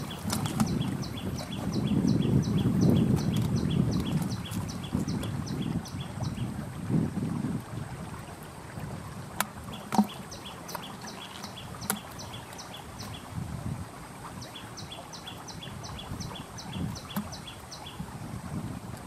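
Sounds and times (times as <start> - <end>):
low wind rumble: 0.0 - 9.8, 11.2 - 19.0.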